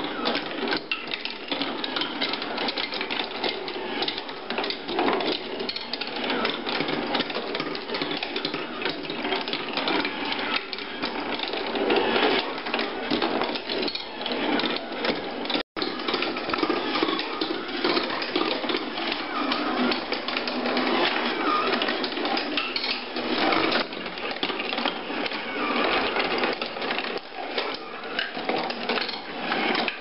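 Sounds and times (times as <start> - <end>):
marbles rattling on wooden tracks: 0.0 - 30.0.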